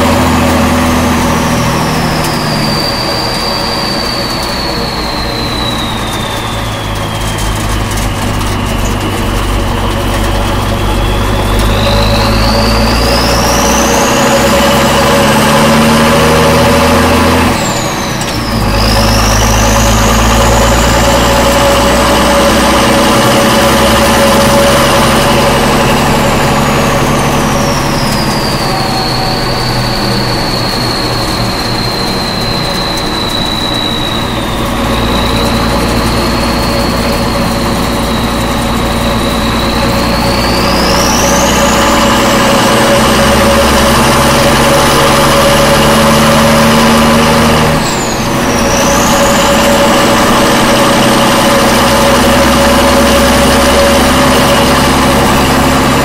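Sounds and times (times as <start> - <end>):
high engine whine: 0.0 - 56.0
truck diesel engine rumble: 0.0 - 56.0.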